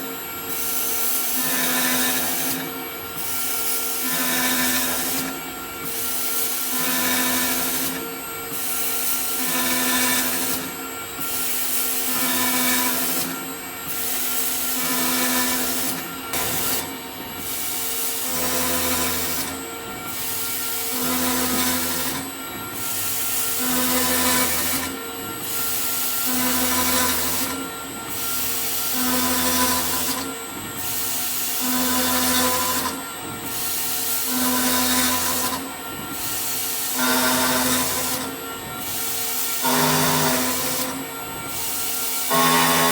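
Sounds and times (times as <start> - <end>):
cnc machine drilling metal: 0.0 - 42.9.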